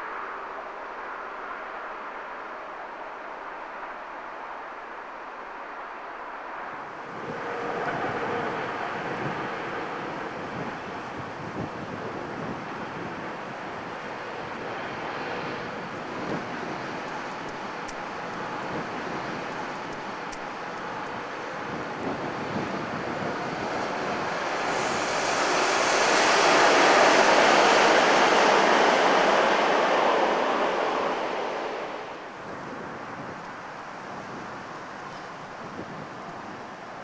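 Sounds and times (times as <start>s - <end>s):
steady windy hiss: 0.0s - 37.0s
train passing at speed: 0.0s - 37.0s.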